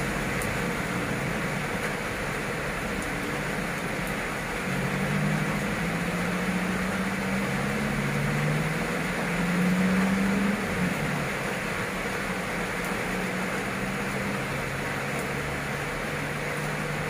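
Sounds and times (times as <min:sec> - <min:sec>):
heavy rain pouring: 0:00.0 - 0:17.0
passing vehicle engine hum: 0:00.0 - 0:17.0.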